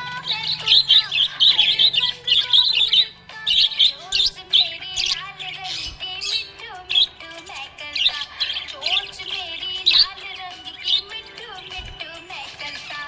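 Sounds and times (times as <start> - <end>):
budgerigar chirping and warbling: 0.0 - 13.0.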